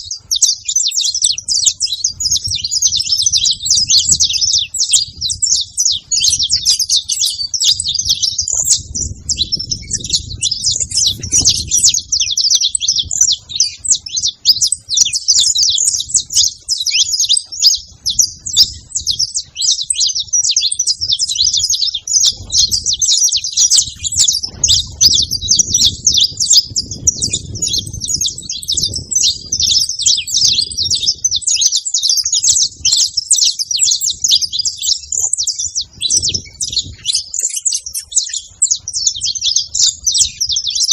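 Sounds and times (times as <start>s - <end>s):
flock of finches chirping: 0.0s - 40.9s.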